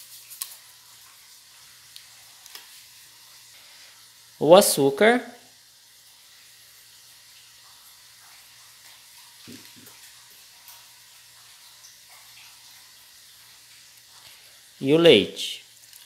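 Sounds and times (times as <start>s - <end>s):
steady low room hiss: 0.0s - 16.0s.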